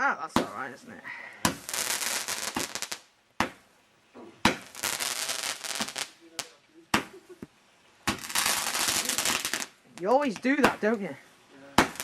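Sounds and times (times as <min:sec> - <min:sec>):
firework crackling: 0:00.0 - 0:12.0
firework bangs: 0:00.3 - 0:12.0.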